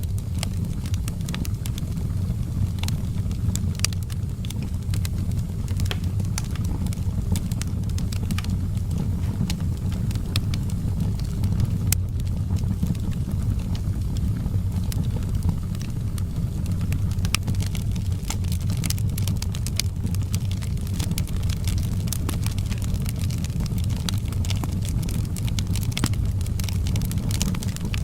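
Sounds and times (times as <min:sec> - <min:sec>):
fire low rumble: 0:00.0 - 0:28.0
wood fire crackling and popping: 0:00.0 - 0:28.0.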